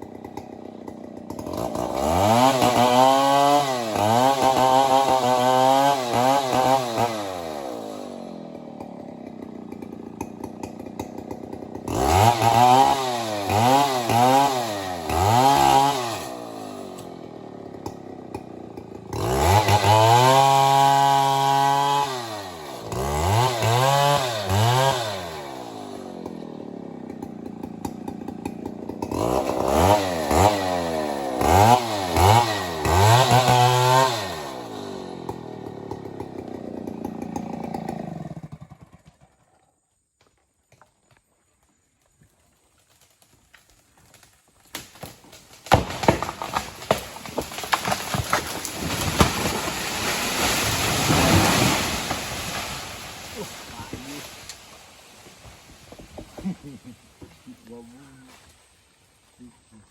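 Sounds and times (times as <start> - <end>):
chainsaw revving and idling: 0.0 - 40.0, 43.0 - 58.4.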